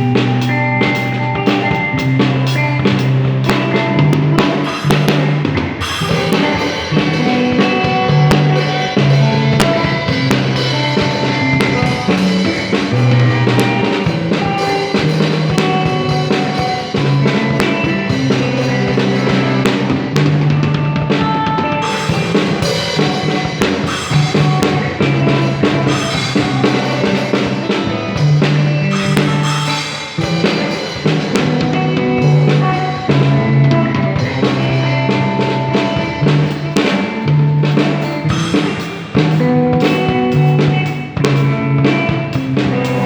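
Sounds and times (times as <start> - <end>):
bass notes: 0.0 - 43.0
drum kit beat: 0.0 - 43.0
rock band playing: 0.0 - 43.0.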